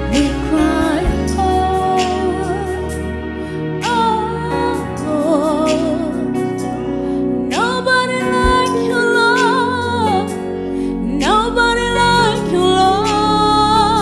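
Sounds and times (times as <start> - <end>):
gospel worship music: 0.0 - 14.0.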